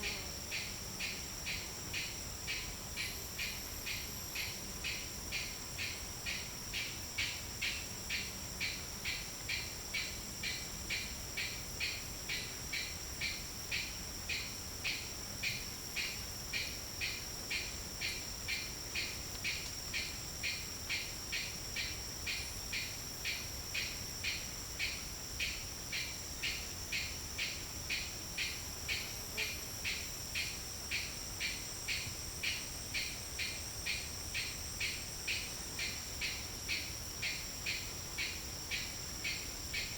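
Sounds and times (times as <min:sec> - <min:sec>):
insect drone: 0:00.0 - 0:39.9
pulsing insect call: 0:00.0 - 0:39.9.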